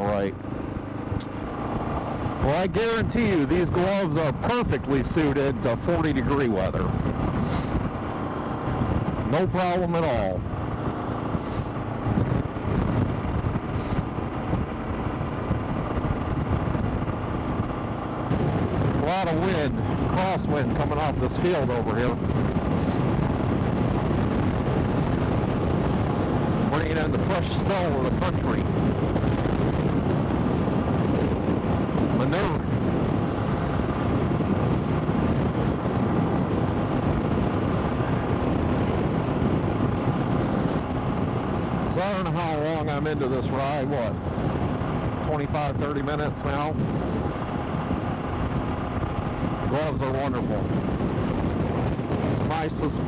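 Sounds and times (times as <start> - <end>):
motorcycle engine running: 0.0 - 52.8
wind noise on microphone: 0.0 - 53.0.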